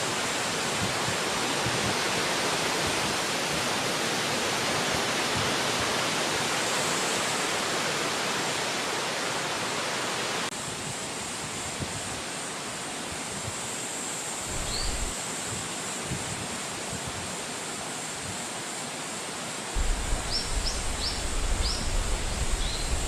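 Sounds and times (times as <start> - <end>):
wind through trees: 0.0 - 23.0.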